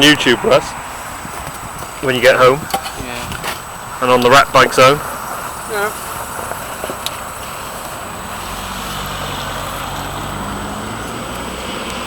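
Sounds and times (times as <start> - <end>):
traffic hiss: 0.0 - 12.0
vehicle engine hum: 0.0 - 12.0.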